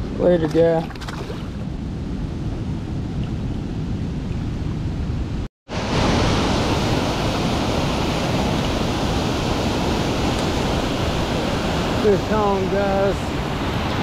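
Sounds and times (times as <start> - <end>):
steady rushing outdoor noise: 1.2 - 14.0.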